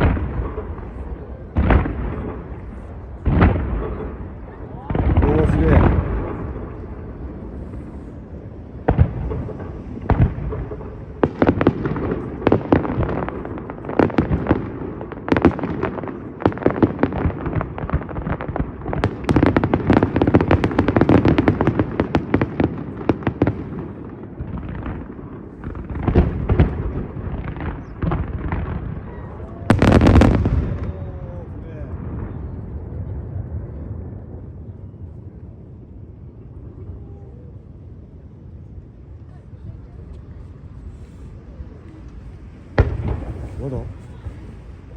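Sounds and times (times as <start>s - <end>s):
fireworks bursting: 0.0s - 33.5s, 38.8s - 44.9s.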